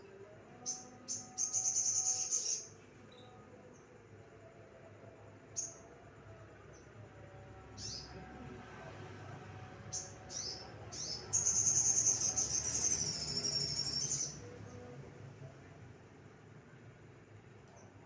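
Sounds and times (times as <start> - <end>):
songbird chirping and warbling: 0.0 - 15.0.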